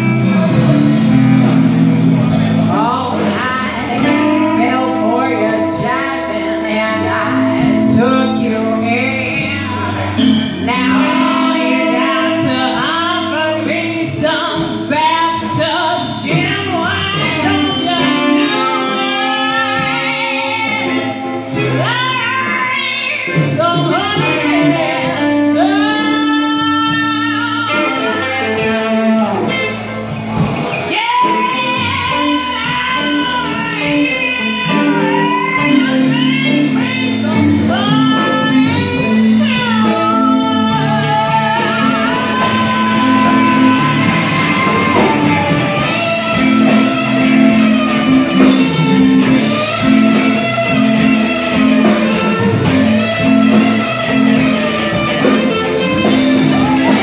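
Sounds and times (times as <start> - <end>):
woman singing: 0.0 - 29.7, 30.7 - 57.0
live blues band playing: 0.0 - 57.0.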